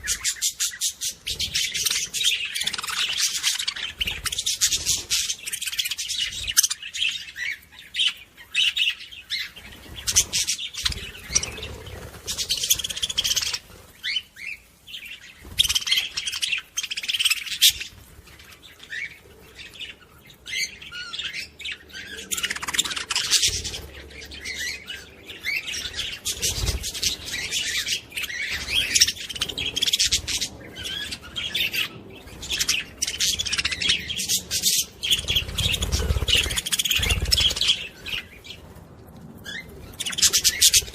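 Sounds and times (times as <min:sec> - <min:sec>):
parrots chattering and chirping: 0:00.0 - 0:38.6, 0:39.4 - 0:40.9.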